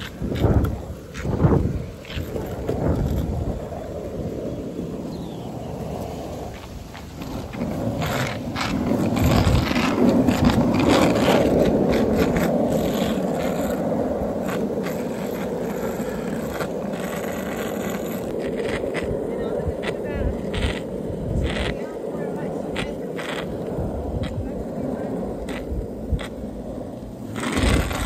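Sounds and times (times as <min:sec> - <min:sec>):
wheels clicking over cracks: 0:00.0 - 0:04.1, 0:05.1 - 0:28.0
longboard wheels rolling on asphalt: 0:00.0 - 0:28.0.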